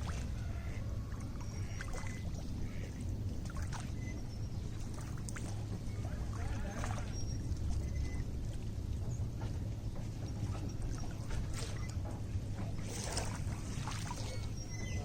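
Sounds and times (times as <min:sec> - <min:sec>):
lake water lapping and splashing: 0:00.0 - 0:15.0
steady low rumble: 0:00.0 - 0:15.0.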